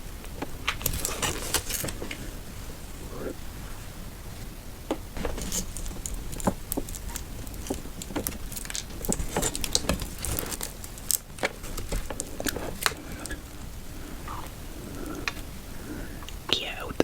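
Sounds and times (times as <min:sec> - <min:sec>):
handling clicks and crinkles: 0:00.2 - 0:03.0, 0:04.4 - 0:16.5.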